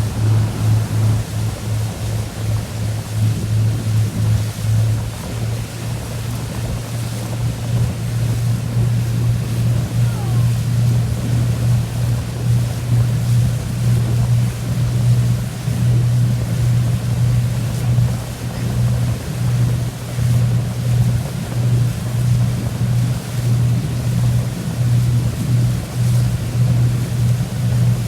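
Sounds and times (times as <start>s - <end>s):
boat engine droning: 0.0s - 28.0s
rushing water: 0.0s - 28.0s
wind: 0.0s - 28.0s.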